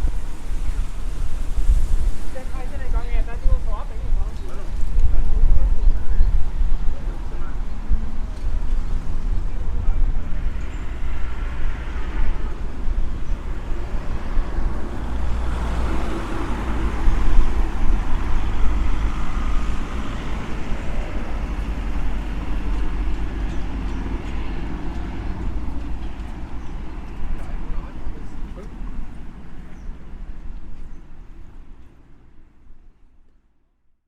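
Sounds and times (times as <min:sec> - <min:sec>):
vehicle passing: 0:00.0 - 0:32.4
low traffic rumble: 0:00.0 - 0:34.0.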